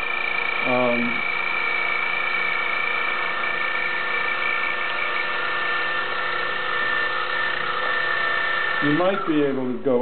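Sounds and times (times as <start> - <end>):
milling machine cutting metal: 0.0 - 9.8
high whine: 0.0 - 10.0.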